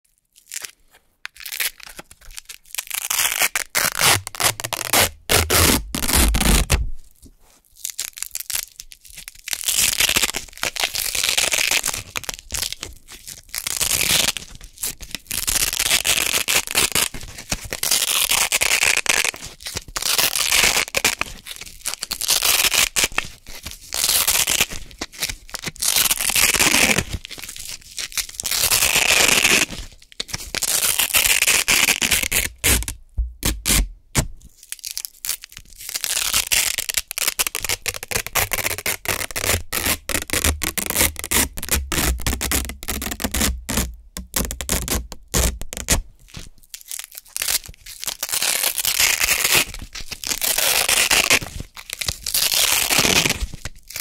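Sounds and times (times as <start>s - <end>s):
velcro tearing: 0.3s - 7.1s, 7.8s - 54.0s.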